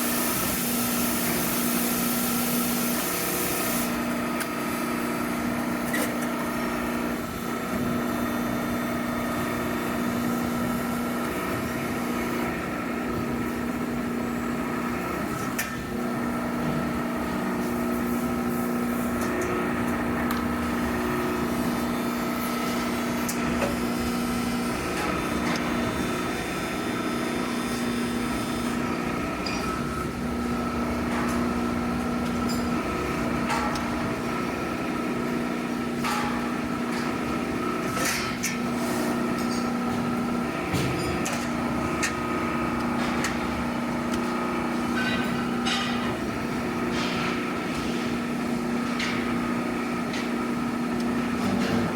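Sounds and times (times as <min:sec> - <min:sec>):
machinery humming: 0:00.0 - 0:51.9.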